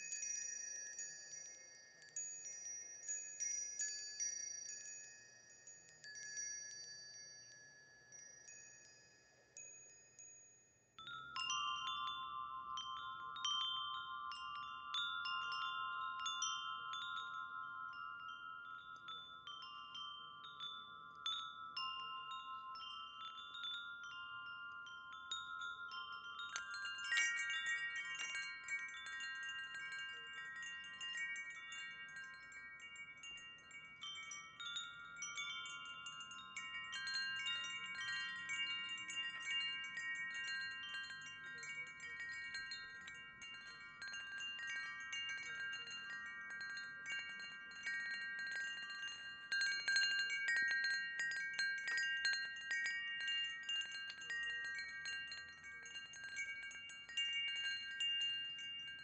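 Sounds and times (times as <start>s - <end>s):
wind chimes ringing: 0.0s - 59.0s.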